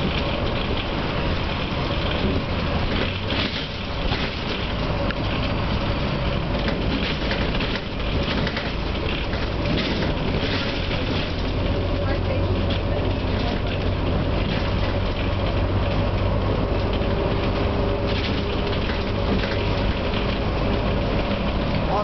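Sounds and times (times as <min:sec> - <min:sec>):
bus engine drone: 0:00.0 - 0:22.0
road noise: 0:00.0 - 0:22.0.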